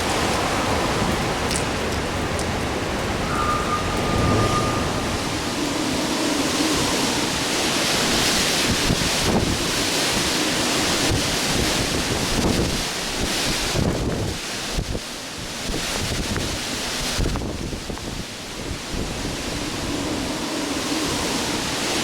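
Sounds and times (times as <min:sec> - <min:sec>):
waves washing and breaking: 0:00.0 - 0:22.0
wind gusting over microphone: 0:00.0 - 0:22.0.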